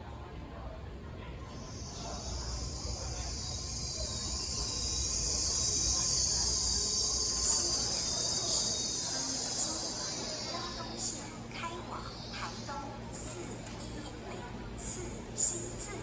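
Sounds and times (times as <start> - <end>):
train hiss and rumble: 0.2 - 16.0.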